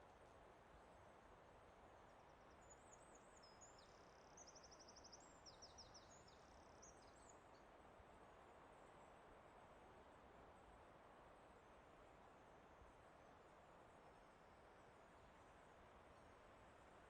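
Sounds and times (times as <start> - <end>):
forest ambience hiss: 0.0 - 17.0.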